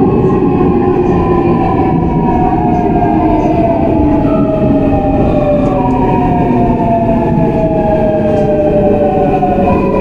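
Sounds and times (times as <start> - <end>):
subway inverter and motor whine: 0.0 - 10.0.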